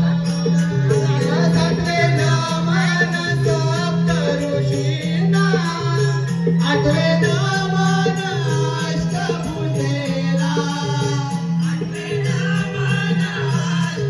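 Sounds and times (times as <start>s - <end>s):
voices singing: 0.0s - 14.0s.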